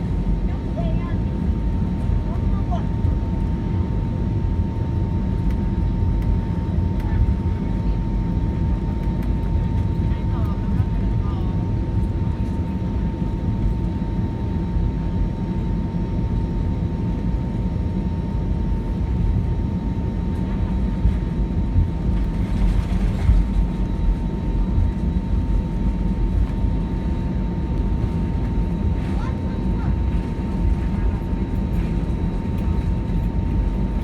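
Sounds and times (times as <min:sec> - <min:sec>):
airplane cabin low rumble: 0:00.0 - 0:34.0.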